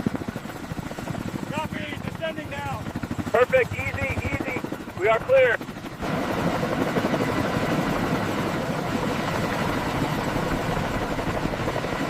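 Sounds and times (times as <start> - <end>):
helicopter rotor noise: 0.0 - 12.0.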